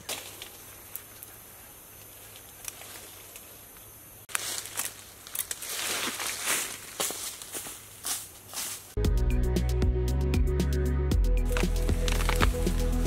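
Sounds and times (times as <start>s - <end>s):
leaves and twigs rustling: 0.0s - 9.0s, 11.4s - 13.0s.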